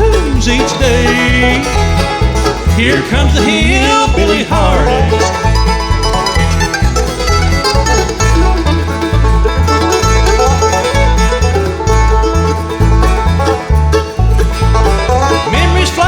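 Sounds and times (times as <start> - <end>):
banjo: 0.0 - 16.0
bluegrass band playing: 0.0 - 16.0.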